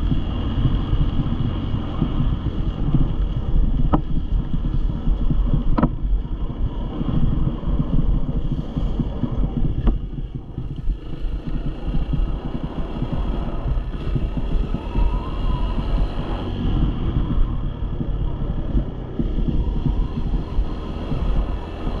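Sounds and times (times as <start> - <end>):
dirt bike engine running: 0.0 - 22.0
wind rumble on microphone: 0.0 - 22.0.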